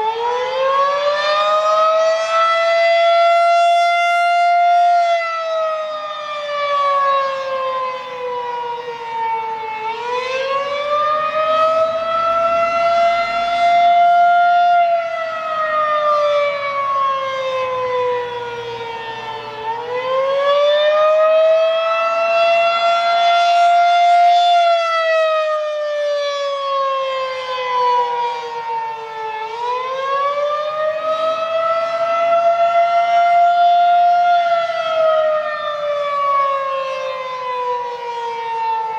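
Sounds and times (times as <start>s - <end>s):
outdoor warning siren wailing: 0.0s - 38.9s.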